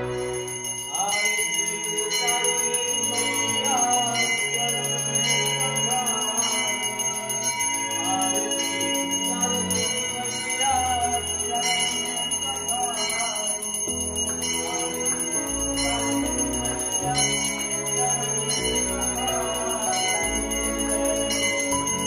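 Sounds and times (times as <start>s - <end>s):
brass hand bell ringing: 0.0s - 22.0s
devotional music: 0.0s - 22.0s.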